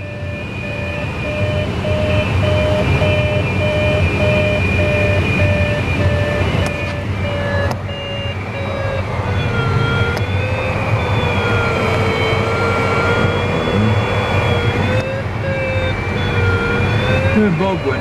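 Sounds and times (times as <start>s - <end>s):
variometer beeping: 0.0s - 18.0s
wavering low tone: 0.7s - 18.0s.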